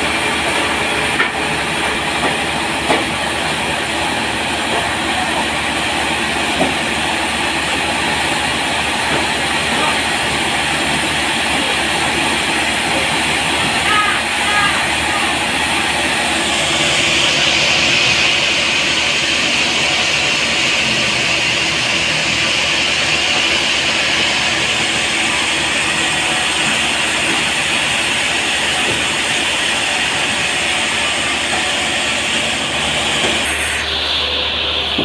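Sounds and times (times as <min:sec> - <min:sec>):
sawmill saw cutting log: 0:00.0 - 0:35.0.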